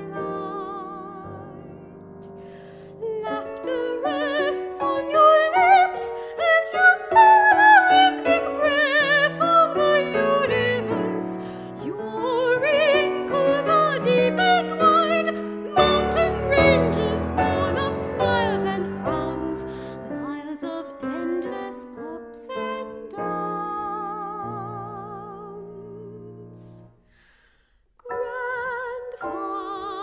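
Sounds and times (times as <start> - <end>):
soprano singing with vibrato: 0.0 - 2.2, 2.9 - 26.9, 28.0 - 30.0
piano accompaniment: 0.0 - 27.0, 28.0 - 30.0.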